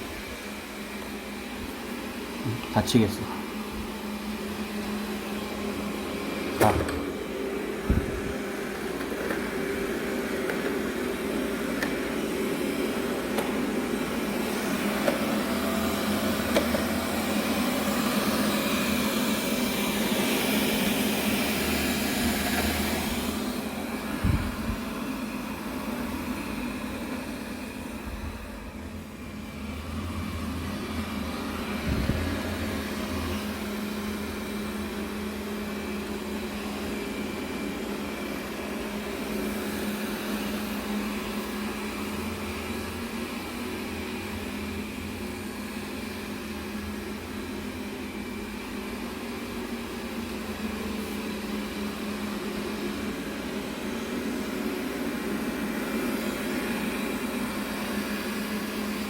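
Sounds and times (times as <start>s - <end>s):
robot vacuum cleaner whirring: 3.4s - 59.0s.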